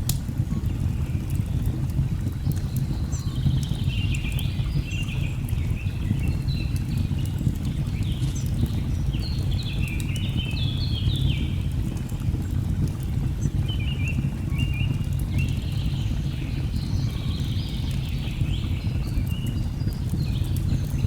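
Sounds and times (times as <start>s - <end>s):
log fire crackling and popping: 0.0s - 21.0s.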